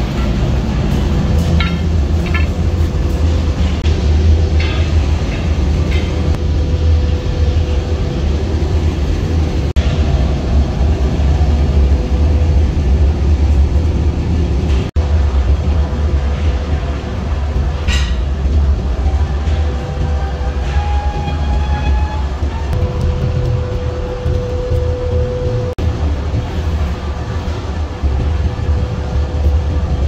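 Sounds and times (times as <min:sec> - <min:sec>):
workshop machinery rumbling: 0:00.0 - 0:30.0.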